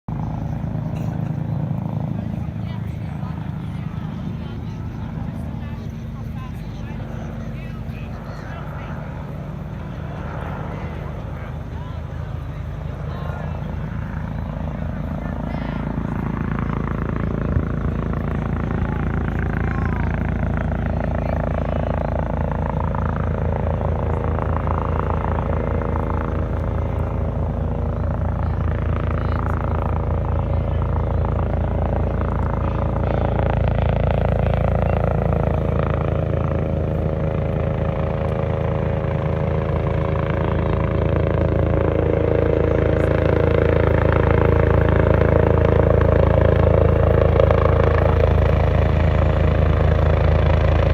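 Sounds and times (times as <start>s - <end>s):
helicopter rotor beat: 0.1s - 50.9s
helicopter turbine whine: 0.1s - 50.9s.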